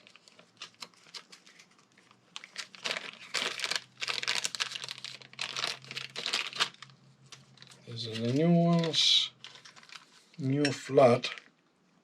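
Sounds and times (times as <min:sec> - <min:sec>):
plastic packaging crinkling: 0:00.0 - 0:10.4, 0:11.0 - 0:11.6.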